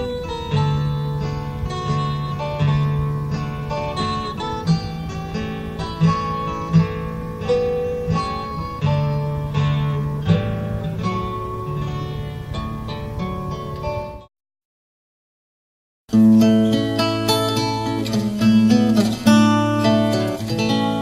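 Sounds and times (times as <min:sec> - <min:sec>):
acoustic guitar melody: 0:00.0 - 0:14.3, 0:16.1 - 0:21.0.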